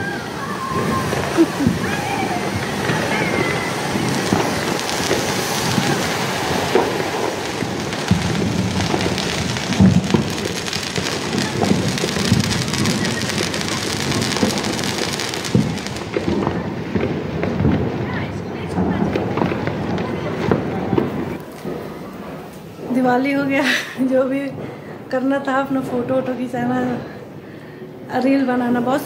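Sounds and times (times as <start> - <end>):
ground fountain firework hissing: 0.0 - 26.3.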